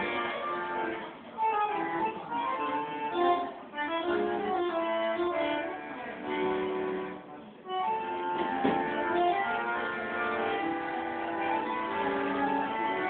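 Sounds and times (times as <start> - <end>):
bandoneon playing notes and chords: 0.0 - 13.0.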